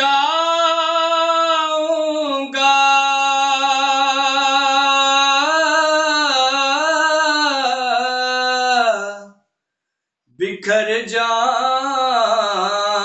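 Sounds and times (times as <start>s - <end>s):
man singing unaccompanied: 0.0s - 9.4s, 10.4s - 13.0s.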